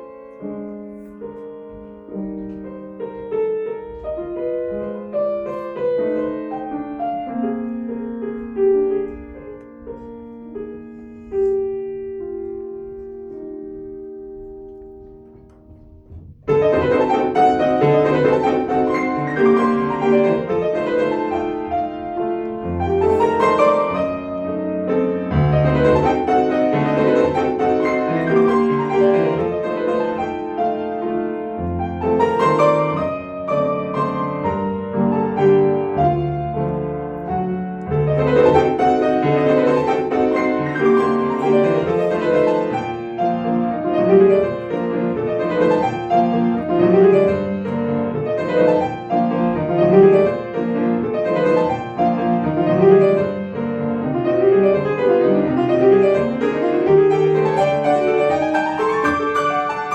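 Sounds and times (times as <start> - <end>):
solo classical piano piece: 0.0 - 59.9.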